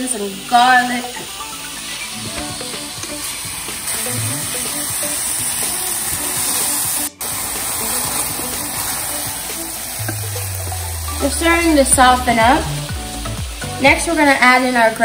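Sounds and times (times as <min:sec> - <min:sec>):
onions sizzling in a pan: 0:00.0 - 0:15.0.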